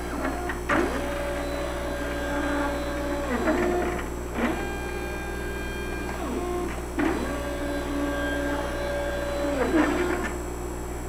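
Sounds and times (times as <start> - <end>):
stepper motor whine: 0.0 - 11.0.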